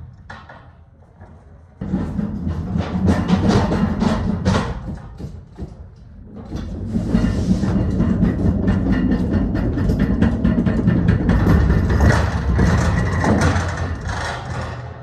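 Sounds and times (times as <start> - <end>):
pallet jack wheels rumbling: 0.0 - 15.0.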